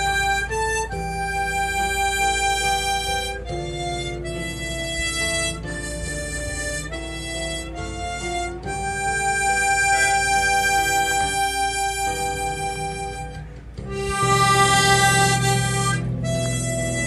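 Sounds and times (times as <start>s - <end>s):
low musical accompaniment: 0.0s - 17.0s
slow wind instrument melody: 0.0s - 17.0s.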